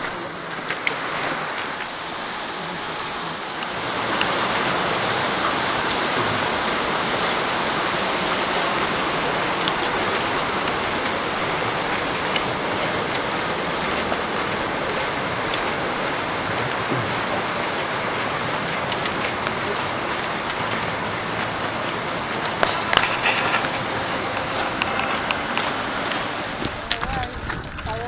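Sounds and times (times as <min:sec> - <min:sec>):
creek flowing: 0:00.0 - 0:28.0.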